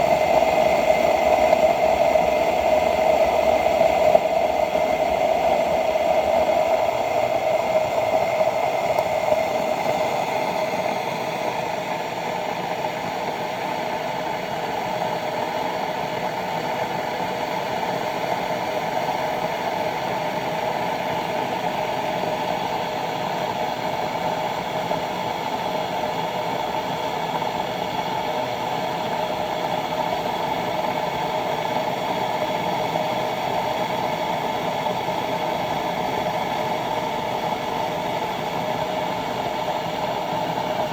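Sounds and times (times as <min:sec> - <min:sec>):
electric kettle heating water: 0:00.0 - 0:40.9.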